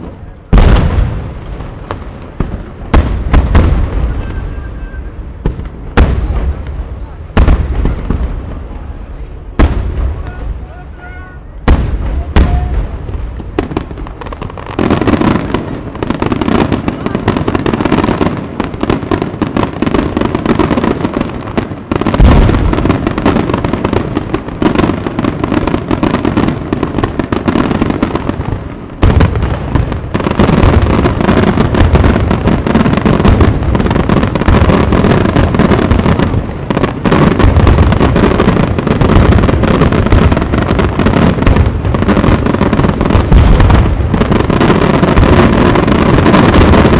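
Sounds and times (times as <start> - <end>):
fireworks bangs and crackling bursts: 0.0 - 46.9.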